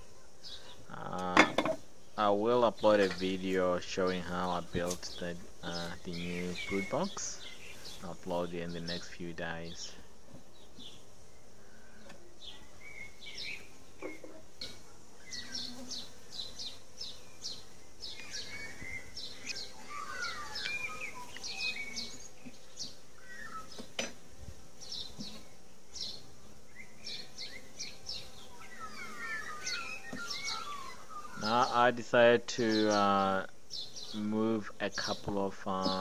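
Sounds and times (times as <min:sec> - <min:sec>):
honey bees humming: 0:00.0 - 0:36.0
small birds chirping: 0:00.0 - 0:36.0.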